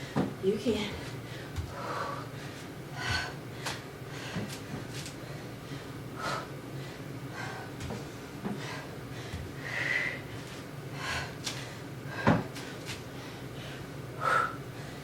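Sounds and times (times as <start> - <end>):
heavy breathing: 1.0 - 15.0.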